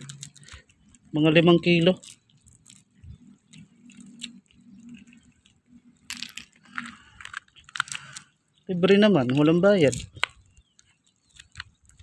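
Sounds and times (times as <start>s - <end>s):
mussel shells crunching: 0.0s - 12.0s
shells crackling: 0.0s - 12.0s.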